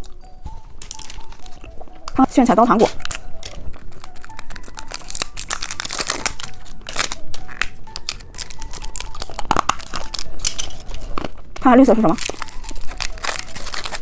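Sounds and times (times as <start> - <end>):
plastic packaging crinkling and tearing: 0.0 - 14.0.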